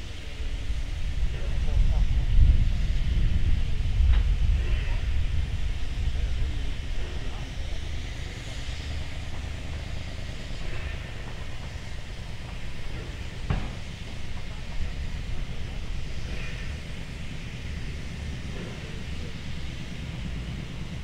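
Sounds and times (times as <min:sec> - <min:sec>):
diesel engine rumble: 0:00.0 - 0:21.0.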